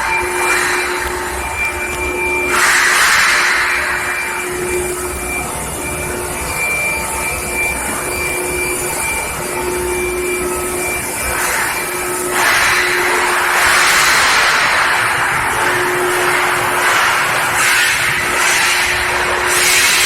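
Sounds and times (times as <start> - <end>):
faint whining tones: 0.0 - 20.0
industrial machinery running: 0.0 - 20.0.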